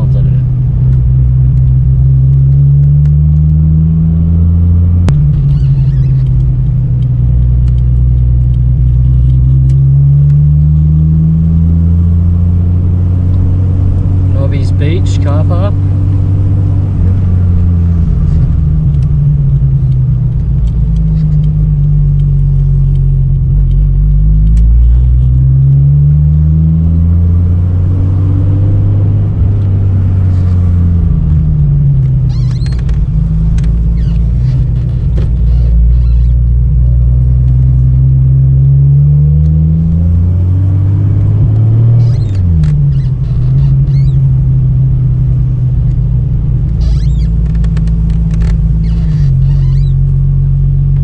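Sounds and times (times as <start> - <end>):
car engine accelerating: 0.0 - 51.0.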